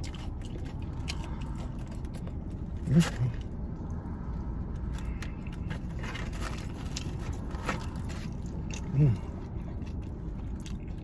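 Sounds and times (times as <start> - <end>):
chewing crispy chicken: 0.0 - 3.4, 4.8 - 11.0.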